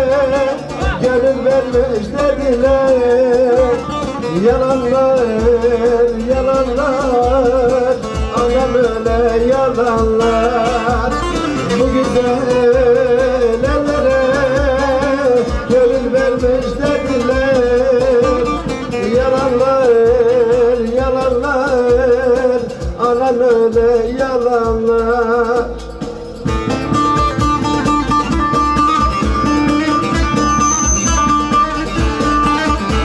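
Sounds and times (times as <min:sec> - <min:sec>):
ornamented folk melody: 0:00.0 - 0:33.0
steady drum beat: 0:00.0 - 0:33.0.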